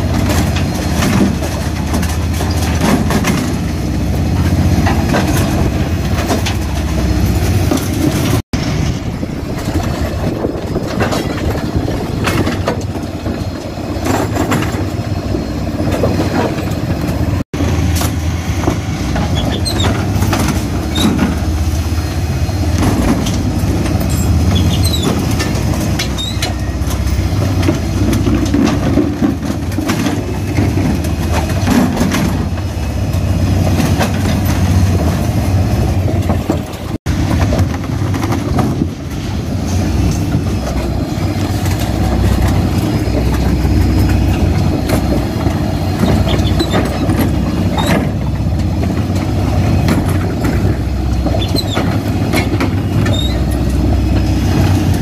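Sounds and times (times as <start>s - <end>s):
wheelie bins knocking and clattering: 0.0s - 8.4s, 9.5s - 21.7s, 22.3s - 55.0s
refuse lorry engine humming: 0.0s - 55.0s.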